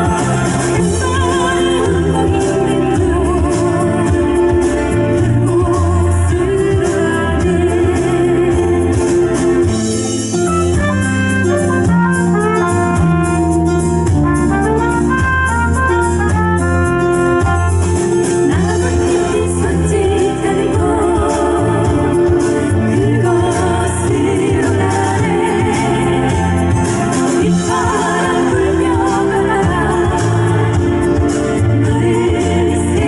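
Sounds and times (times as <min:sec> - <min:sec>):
vocal ensemble singing pop song: 0:00.0 - 0:10.8, 0:16.3 - 0:33.0
instrumental accompaniment: 0:00.0 - 0:33.0.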